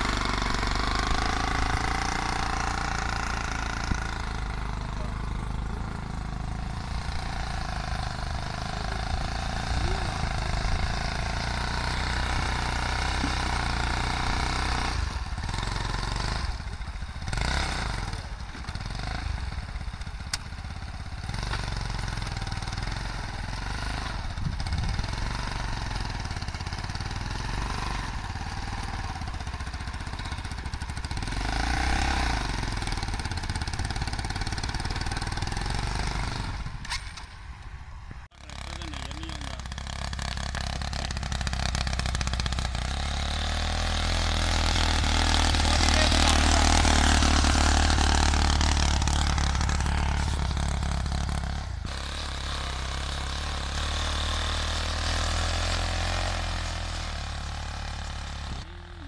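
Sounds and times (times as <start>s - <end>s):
small tractor engine running: 0.0s - 59.0s.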